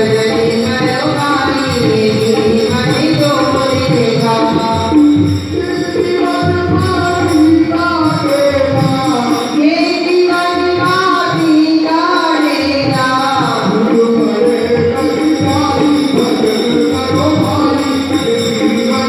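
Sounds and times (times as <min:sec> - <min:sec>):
instrumental and percussion accompaniment: 0:00.0 - 0:19.0
person singing into microphone: 0:00.0 - 0:19.0.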